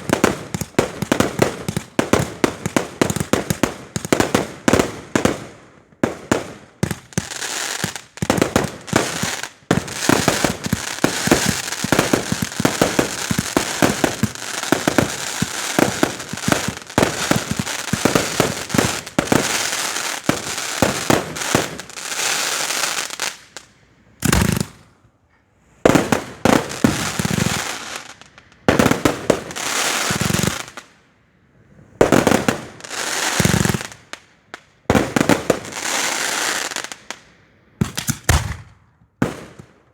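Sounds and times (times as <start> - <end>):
firework bangs and crackling: 0.0 - 24.8, 25.8 - 30.9, 32.0 - 34.2, 34.8 - 37.2, 37.8 - 39.9.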